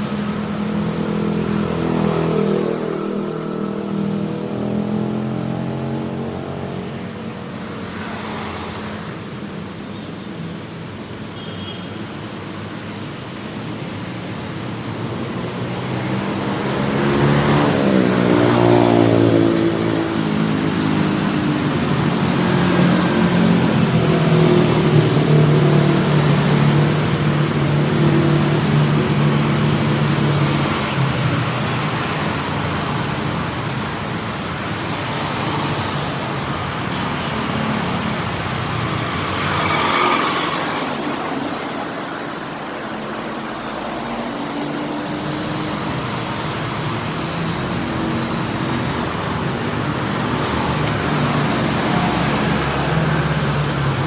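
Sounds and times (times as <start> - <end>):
passing motor traffic: 0.0 - 11.3, 12.2 - 54.0.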